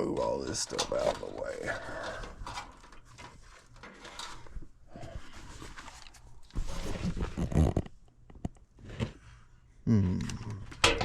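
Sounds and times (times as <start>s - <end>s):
objects scraping and knocking: 0.4s - 9.4s.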